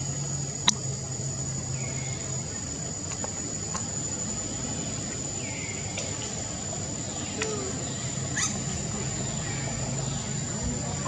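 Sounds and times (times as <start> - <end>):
insects droning: 0.0 - 11.0
low hum: 0.0 - 11.0.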